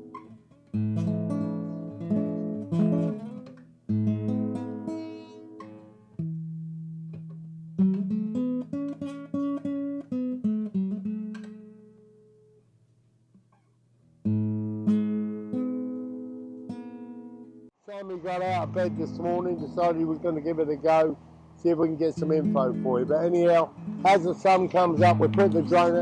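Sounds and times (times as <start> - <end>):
acoustic guitar strumming: 0.0 - 12.6, 14.2 - 26.0.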